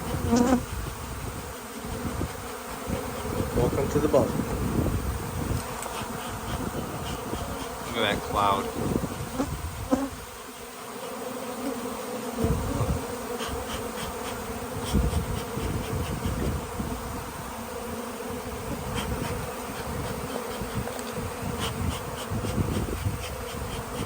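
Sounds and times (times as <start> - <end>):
bees buzzing loudly: 0.0 - 24.0.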